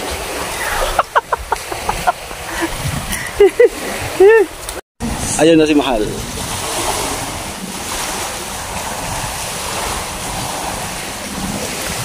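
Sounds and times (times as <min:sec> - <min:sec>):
sea water rushing: 0:00.0 - 0:12.0
wind buffeting microphone: 0:00.0 - 0:12.0.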